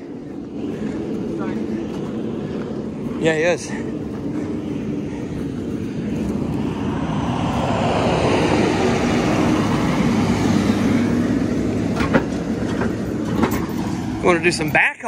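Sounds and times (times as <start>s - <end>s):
truck engine running: 0.0s - 15.0s
tyre noise on dirt road: 0.0s - 15.0s.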